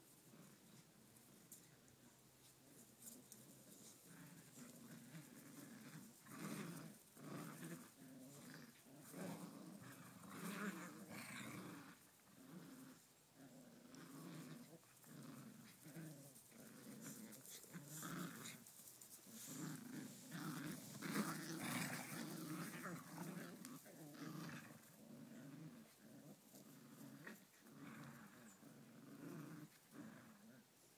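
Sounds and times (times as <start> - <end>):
dogs growling in play: 0.0 - 30.9.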